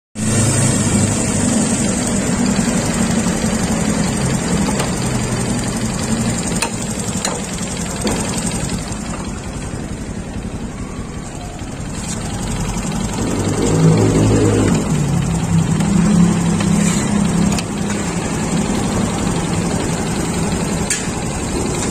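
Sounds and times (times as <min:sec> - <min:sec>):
motorcycle engine idling with knock: 0:01.8 - 0:10.7, 0:12.0 - 0:21.9.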